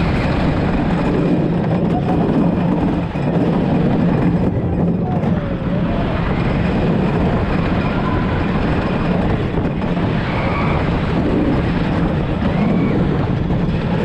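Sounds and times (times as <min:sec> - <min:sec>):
roller coaster rumbling on track: 0:00.0 - 0:14.0.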